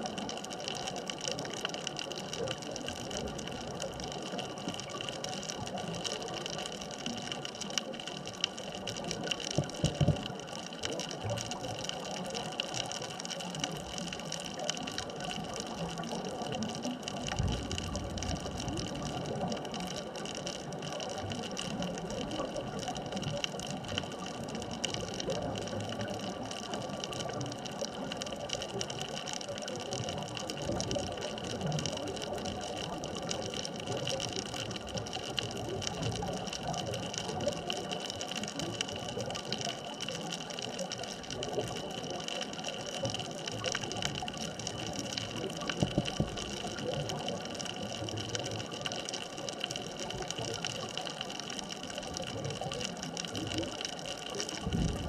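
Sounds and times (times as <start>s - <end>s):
faint constant hums: 0.0s - 55.0s
underwater hiss with crackling: 0.0s - 55.0s.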